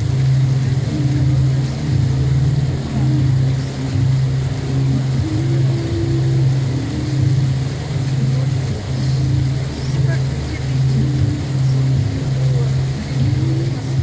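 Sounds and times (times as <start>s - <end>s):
boat engine humming: 0.0s - 14.0s
water or wind noise: 0.0s - 14.0s.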